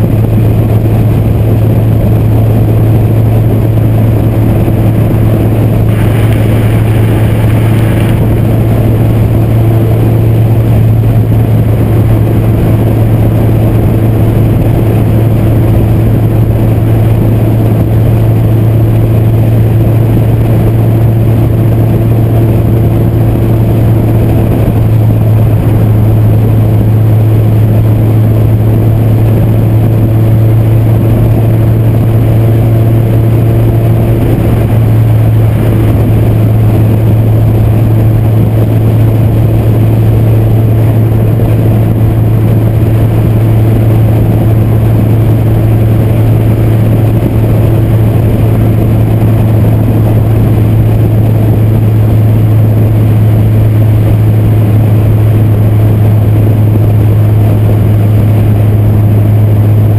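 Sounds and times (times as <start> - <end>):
car engine cruising: 0.0 - 59.9
road and wind noise: 0.0 - 59.9.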